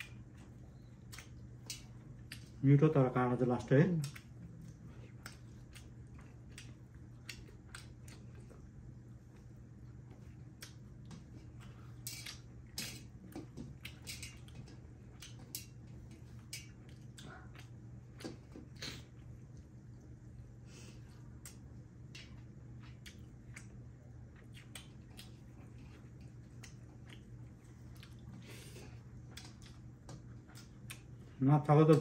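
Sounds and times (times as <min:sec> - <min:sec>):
wet chewing and lip-smacking: 0:00.0 - 0:02.7, 0:03.5 - 0:32.0
steady low hum: 0:00.0 - 0:32.0.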